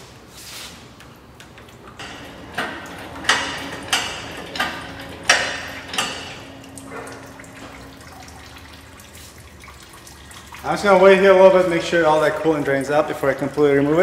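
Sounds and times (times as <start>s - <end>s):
hydraulic hoist pump clanking: 1.0s - 14.0s.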